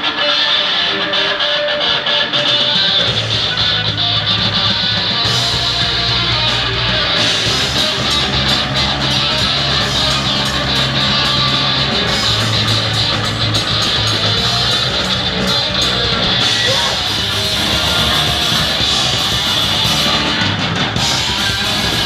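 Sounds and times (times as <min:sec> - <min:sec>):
heavy rock band playing: 0:00.0 - 0:22.0.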